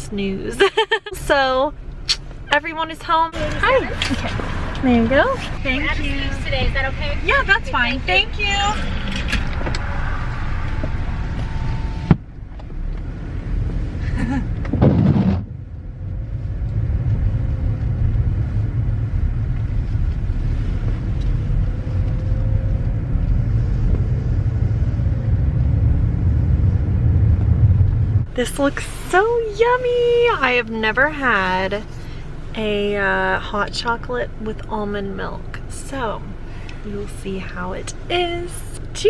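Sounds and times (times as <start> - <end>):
car cabin rumble: 0.0 - 39.0.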